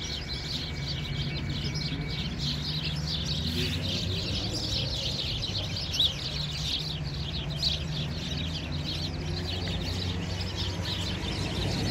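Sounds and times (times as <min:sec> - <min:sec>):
sparrows chirping: 0:00.0 - 0:11.9.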